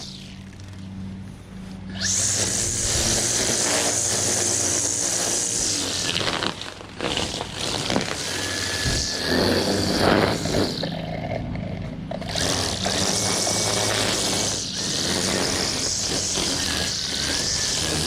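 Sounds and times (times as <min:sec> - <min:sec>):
engine running: 0:00.0 - 0:18.0
noisy rush: 0:00.0 - 0:18.0.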